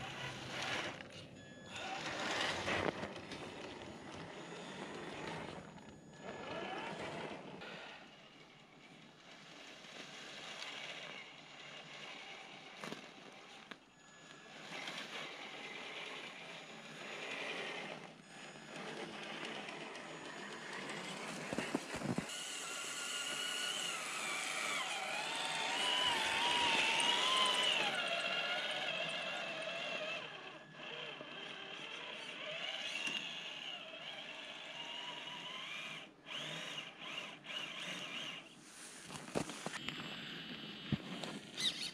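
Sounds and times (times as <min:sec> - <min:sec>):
electric motor whining: 0:00.0 - 0:08.4, 0:09.3 - 0:38.6.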